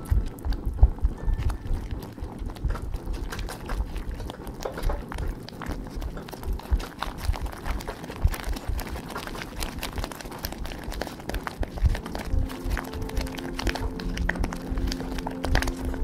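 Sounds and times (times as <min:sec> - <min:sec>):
whisk squelching thick cream: 0:00.0 - 0:16.0.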